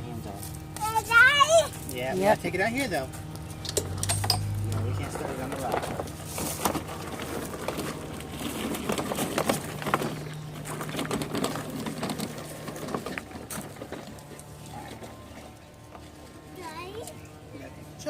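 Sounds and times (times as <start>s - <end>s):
lawn mower clattering over rocks: 1.7s - 17.2s.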